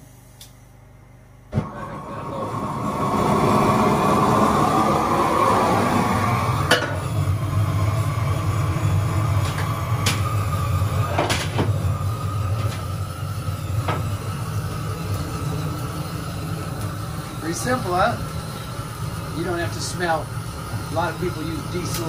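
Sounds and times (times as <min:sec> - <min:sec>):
propane torch burning: 0:00.0 - 0:22.0.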